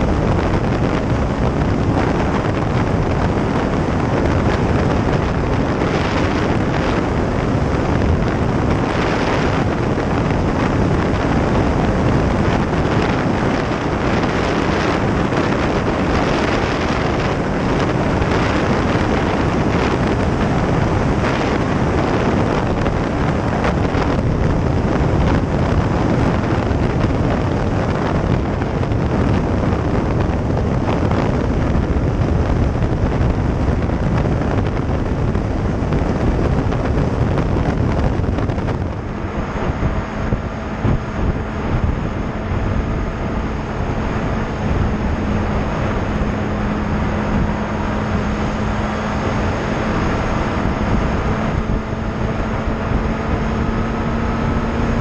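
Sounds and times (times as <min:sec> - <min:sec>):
motorcycle engine drone: 0:00.0 - 0:55.0
wind rushing over microphone: 0:00.0 - 0:55.0.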